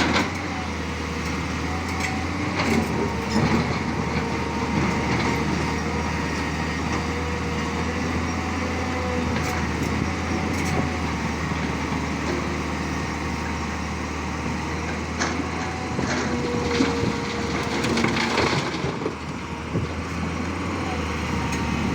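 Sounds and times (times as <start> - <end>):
excavator diesel engine droning: 0.0 - 21.9.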